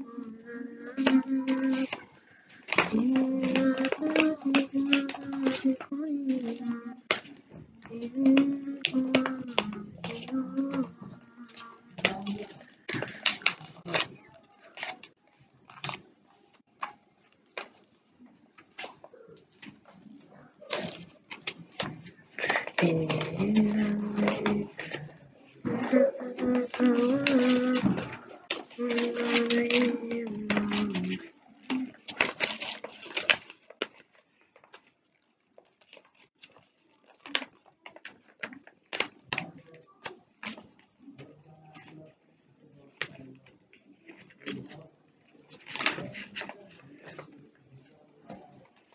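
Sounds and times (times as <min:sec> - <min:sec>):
paper crinkling and rustling: 0:00.0 - 0:48.9.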